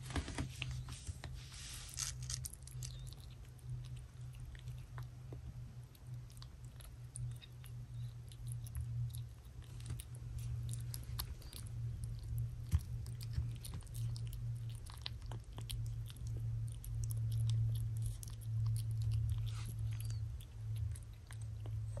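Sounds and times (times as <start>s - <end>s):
kitten eating wet food: 0.0s - 22.0s
steady low hum: 0.0s - 22.0s.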